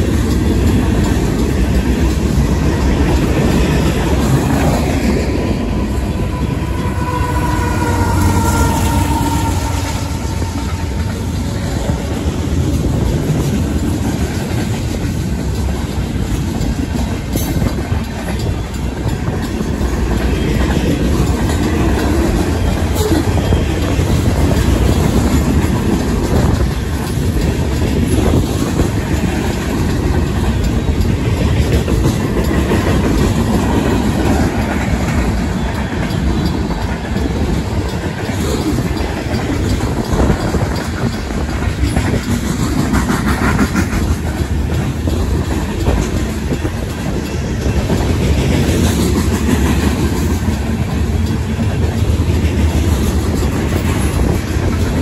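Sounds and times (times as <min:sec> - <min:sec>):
clickety-clack of wheels on rails: 0:00.0 - 0:55.0
crossing warning bells ringing: 0:00.0 - 0:55.0
freight train rumbling past: 0:00.0 - 0:55.0.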